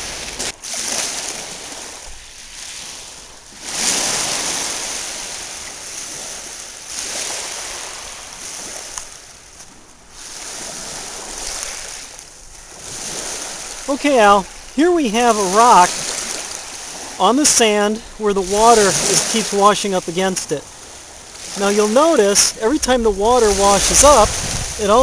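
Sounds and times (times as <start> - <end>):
waves washing onto pebble shore: 0.0 - 25.0.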